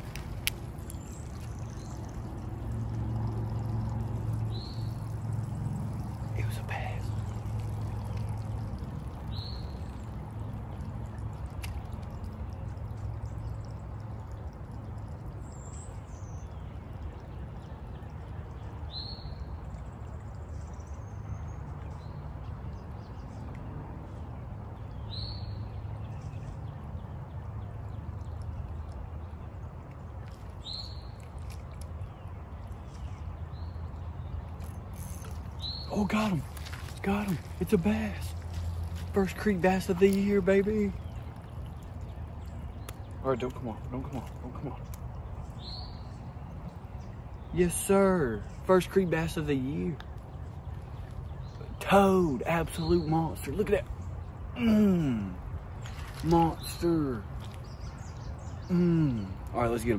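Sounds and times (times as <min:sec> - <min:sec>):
flowing creek water: 0:00.0 - 0:59.9.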